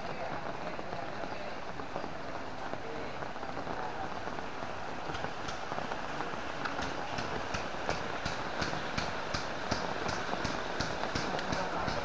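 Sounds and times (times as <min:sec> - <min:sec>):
heavy rain on umbrella: 0:00.0 - 0:12.0.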